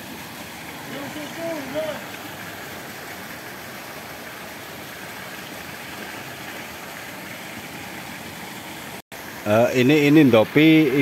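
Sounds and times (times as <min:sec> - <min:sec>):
water pouring into pond: 0:00.0 - 0:11.0.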